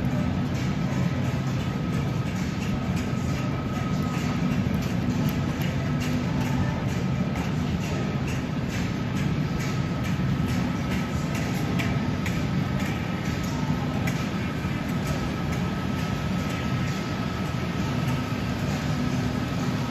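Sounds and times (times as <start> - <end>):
model train clicking on rails: 0.0 - 19.9
steady low hum: 0.0 - 19.9.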